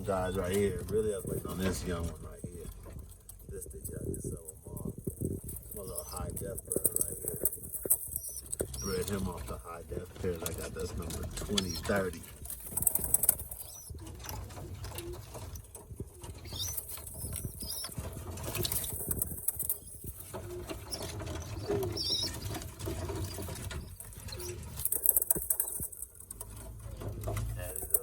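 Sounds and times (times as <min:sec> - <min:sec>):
pigeons cooing: 0:00.0 - 0:28.0
wings rustling and feet pattering: 0:00.0 - 0:28.0
young pigeons peeping: 0:00.0 - 0:28.0.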